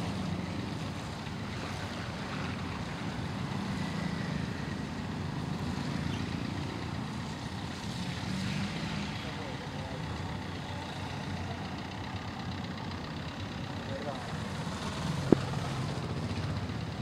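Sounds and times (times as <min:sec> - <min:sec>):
motorcycle engines running: 0:00.0 - 0:17.0
water wash from wheels: 0:00.0 - 0:17.0.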